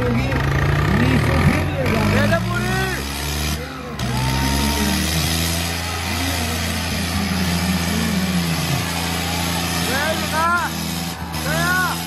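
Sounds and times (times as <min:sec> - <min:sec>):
tractor diesel engines under load: 0:00.0 - 0:12.0.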